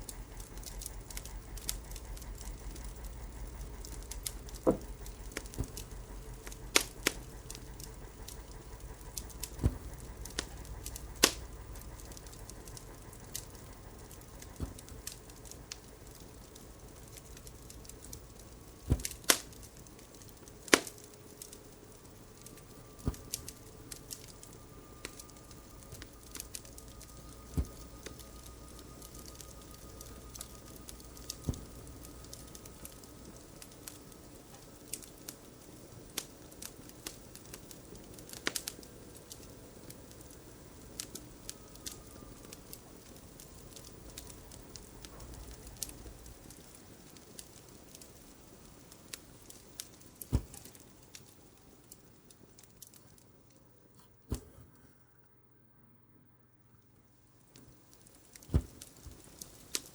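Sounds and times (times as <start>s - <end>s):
wood fire crackling: 0.0s - 54.9s, 57.2s - 59.9s.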